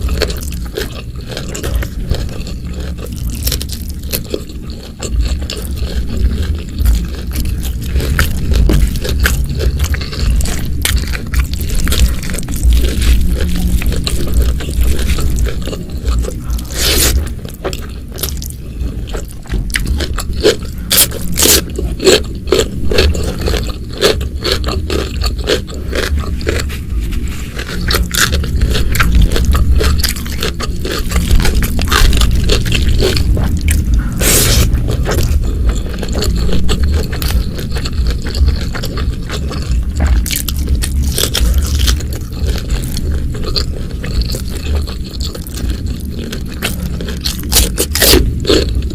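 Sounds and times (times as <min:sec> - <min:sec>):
food crunching while chewing: 0:00.0 - 0:48.9
low rumble: 0:00.0 - 0:48.9.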